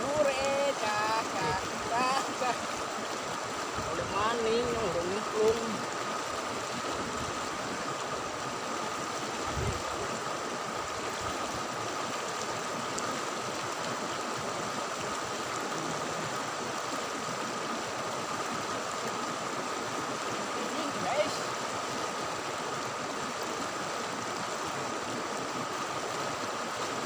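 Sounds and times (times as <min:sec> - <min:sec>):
river flowing: 0:00.0 - 0:27.0.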